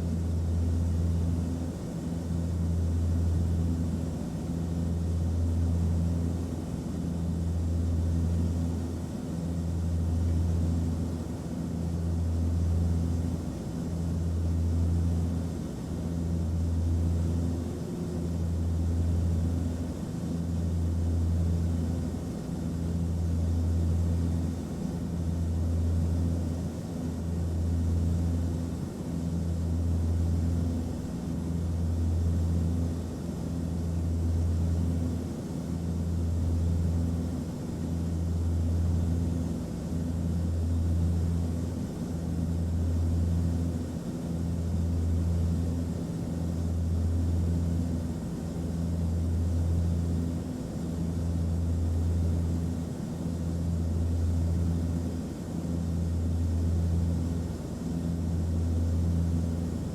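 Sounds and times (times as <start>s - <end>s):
airliner cabin engine drone: 0.0s - 59.9s.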